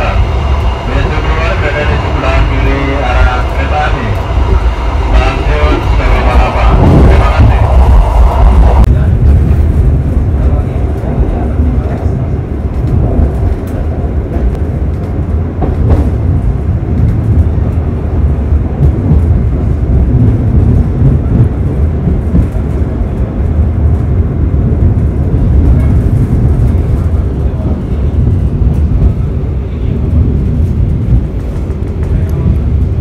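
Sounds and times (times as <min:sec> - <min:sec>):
passenger train rumbling: 0:00.0 - 0:33.0.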